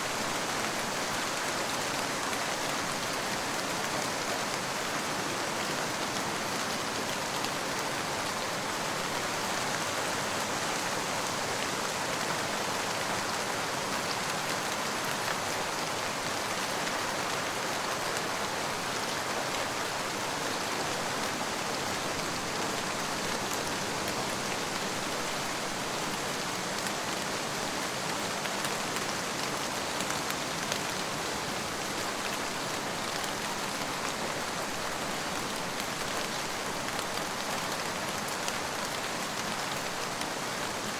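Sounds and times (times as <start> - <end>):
rain pattering on surface: 0.1 - 40.9.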